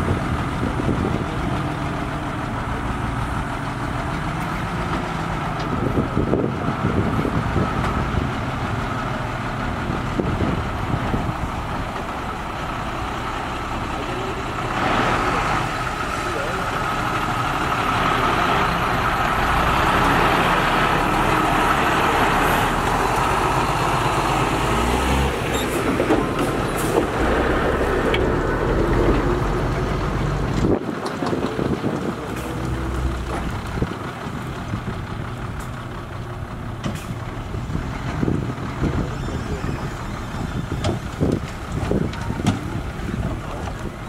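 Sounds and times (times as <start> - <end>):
diesel dump truck engine: 0.0 - 44.0.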